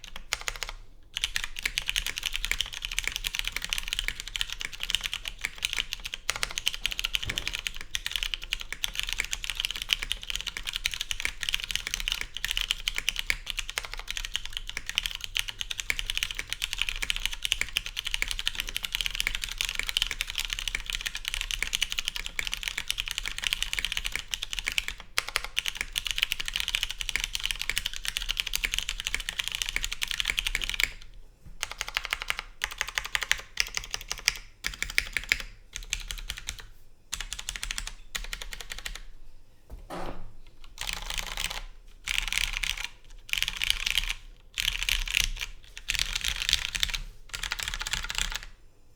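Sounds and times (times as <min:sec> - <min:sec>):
mechanical keyboard typing: 0:00.0 - 0:39.1, 0:40.6 - 0:48.6.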